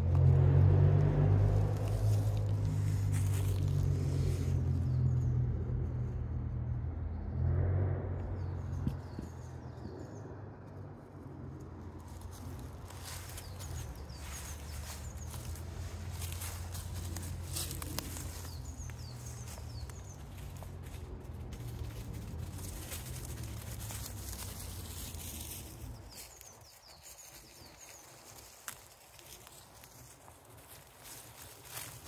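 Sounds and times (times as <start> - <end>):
low rumble on microphone: 0.0 - 26.3
small birds chirping: 1.6 - 6.2, 8.3 - 32.0.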